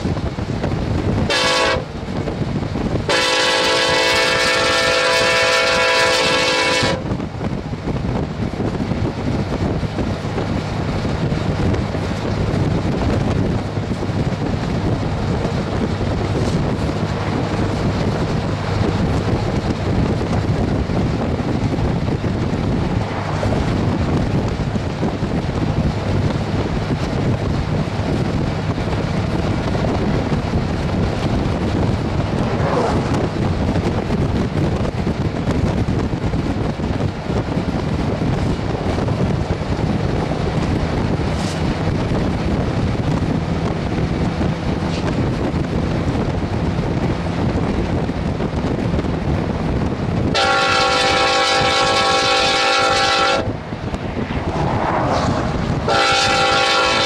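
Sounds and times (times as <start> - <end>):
wind buffeting microphone: 0.0 - 57.0
vehicle low rumble: 7.0 - 50.4, 53.4 - 57.0.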